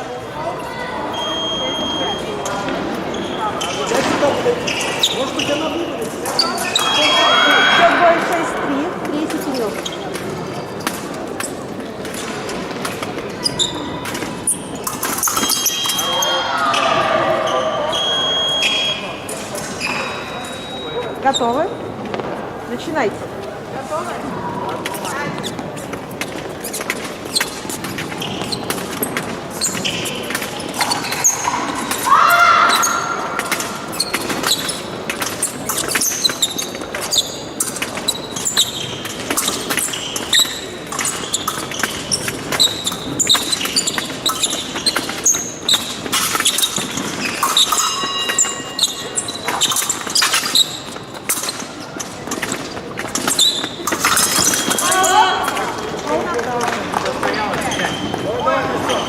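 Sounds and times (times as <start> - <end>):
sneakers squeaking: 0.0 - 59.0.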